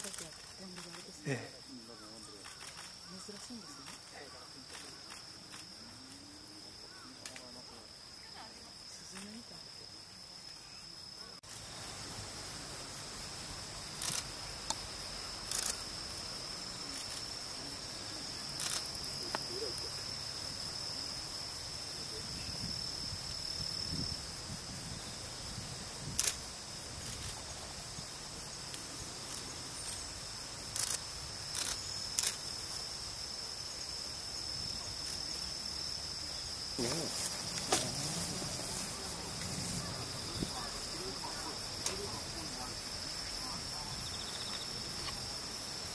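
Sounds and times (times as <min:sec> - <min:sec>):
high-pitched insect trill: 0:00.0 - 0:45.9.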